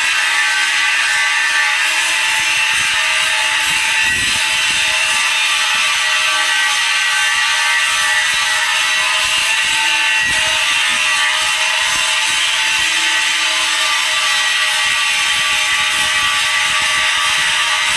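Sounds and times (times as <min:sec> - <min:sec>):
welding arc hissing and crackling: 0:00.0 - 0:17.9.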